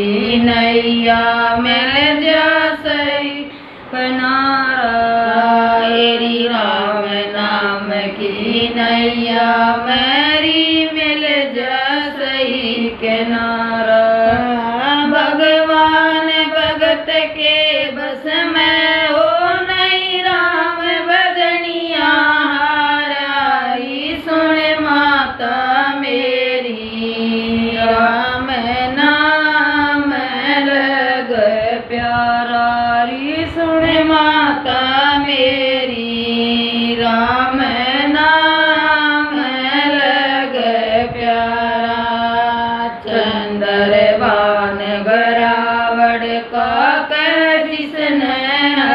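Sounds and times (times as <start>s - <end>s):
women singing devotional song: 0.0s - 48.9s.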